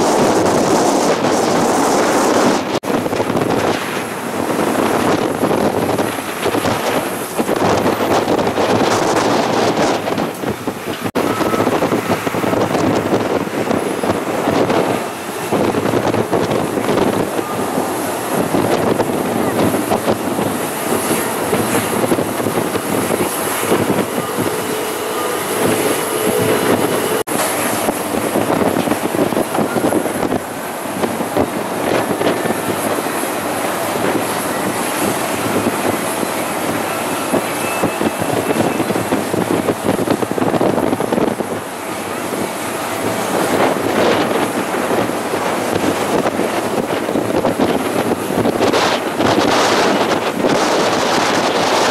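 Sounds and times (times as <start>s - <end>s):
faint high jet whine: 0.0s - 51.4s
jet engines roaring: 0.0s - 51.9s
wind buffeting microphone: 0.0s - 51.9s.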